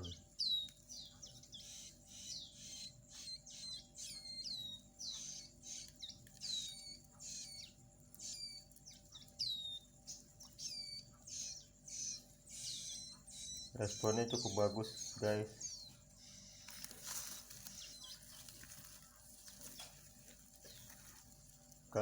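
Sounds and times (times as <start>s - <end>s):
faint steady hum: 0.0s - 22.0s
nestling birds chirping: 0.0s - 22.0s.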